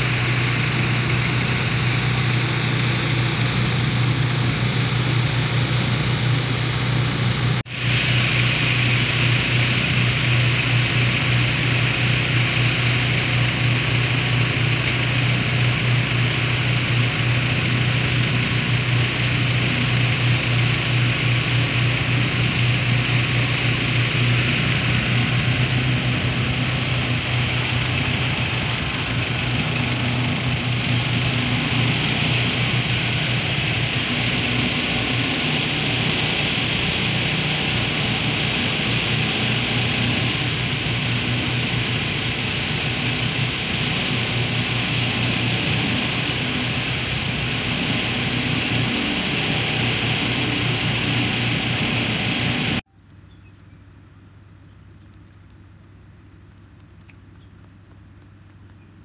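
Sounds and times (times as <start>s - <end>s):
steady hiss: 0.0s - 52.8s
tractor engine running: 0.0s - 53.2s.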